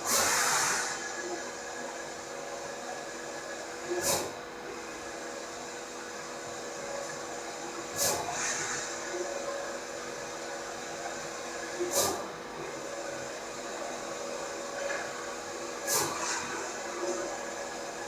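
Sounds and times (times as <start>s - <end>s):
printer mechanical whir: 0.0s - 18.0s.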